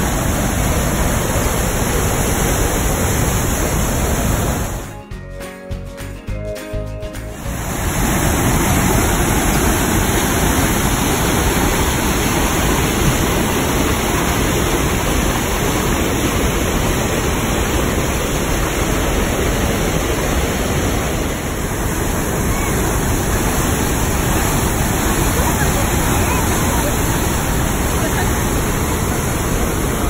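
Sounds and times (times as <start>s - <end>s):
water rushing through gorge: 0.0s - 4.9s, 7.4s - 30.0s.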